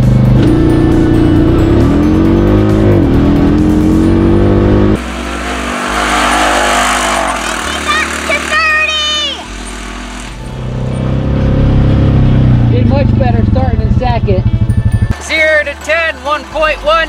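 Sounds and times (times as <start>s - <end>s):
engine accelerating from inside cab: 0.0s - 15.2s
vehicle rushing past: 0.0s - 15.8s.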